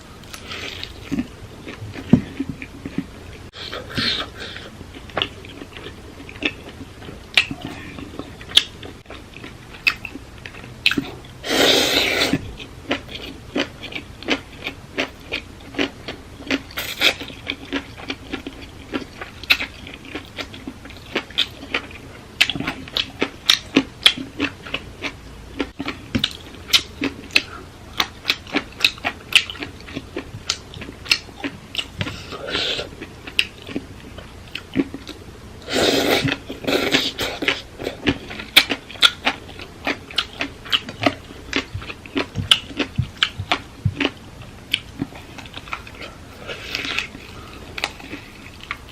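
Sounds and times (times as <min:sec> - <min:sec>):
person chewing crunchy food: 0:00.2 - 0:48.9.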